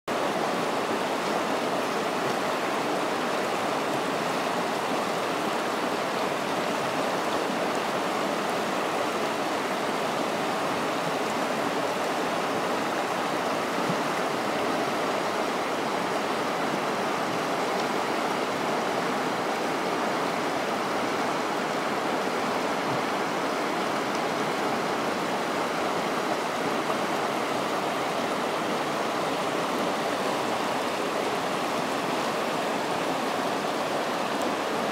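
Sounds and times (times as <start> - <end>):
river rushing over stones: 0.1 - 34.9.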